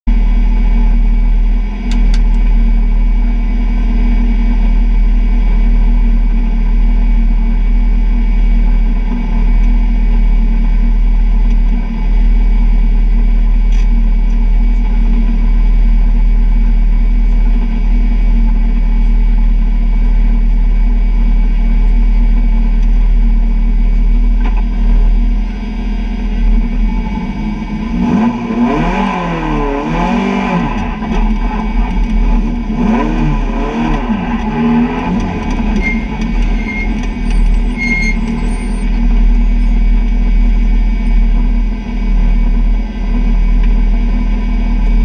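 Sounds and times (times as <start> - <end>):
car engine running: 0.1 - 45.0.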